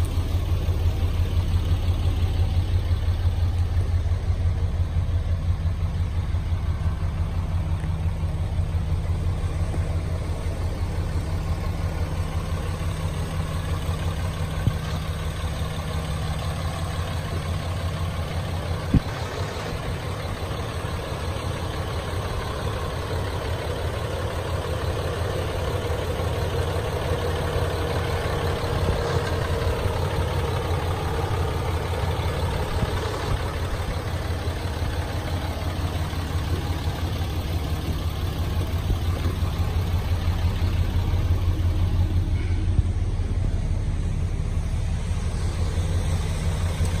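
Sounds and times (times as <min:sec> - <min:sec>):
pickup engine idling: 0:00.0 - 0:47.0.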